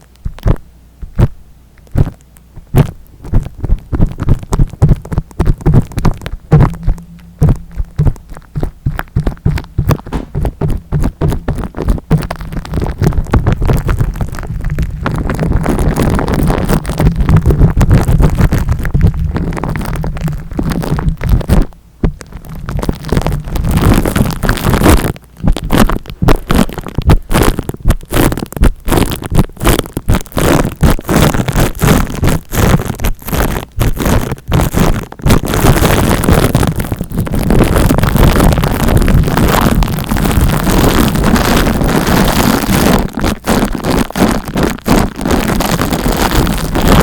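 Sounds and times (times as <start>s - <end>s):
rubbing on microphone: 0.0s - 47.0s.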